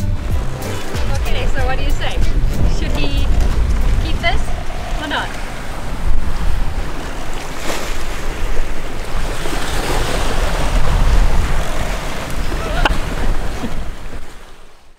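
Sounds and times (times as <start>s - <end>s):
ocean waves rushing: 0.0s - 14.9s
wind buffeting microphone: 0.1s - 14.9s.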